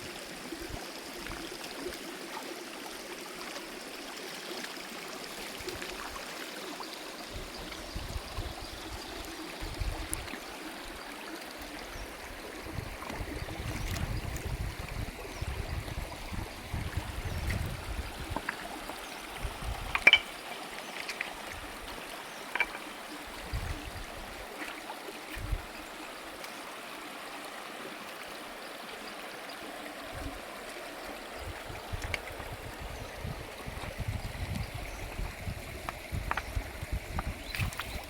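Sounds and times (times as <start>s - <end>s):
stream water running: 0.0s - 38.0s.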